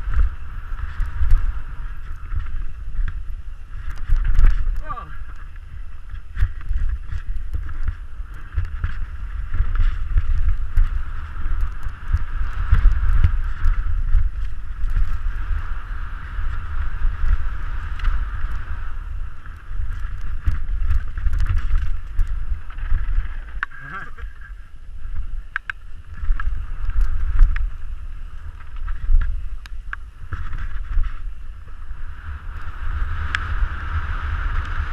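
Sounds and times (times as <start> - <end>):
bike rattling over bumps: 0.0 - 34.9
wind buffeting microphone: 0.0 - 34.9.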